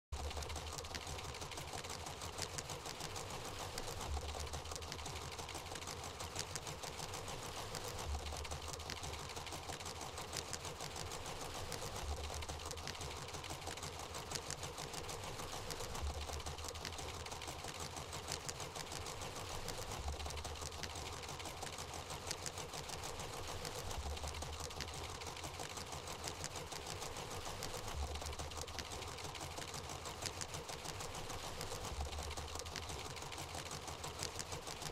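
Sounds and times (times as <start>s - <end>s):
sewing machine running: 0.2s - 34.9s.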